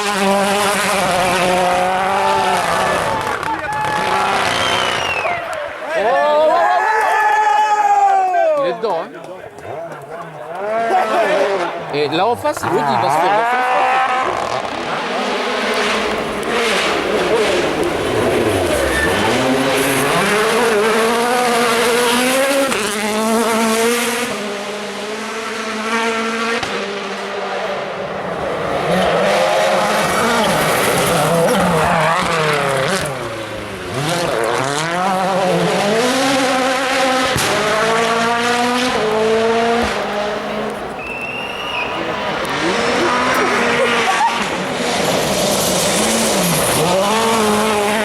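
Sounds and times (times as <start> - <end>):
rally car engine revving: 0.0 - 5.9, 10.5 - 48.0.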